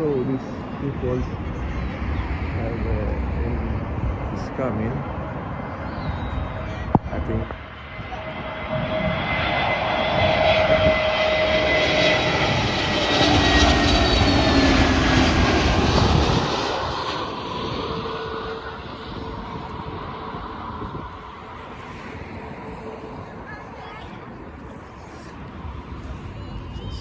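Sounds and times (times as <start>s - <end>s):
jet airliner passing overhead: 0.0s - 27.0s.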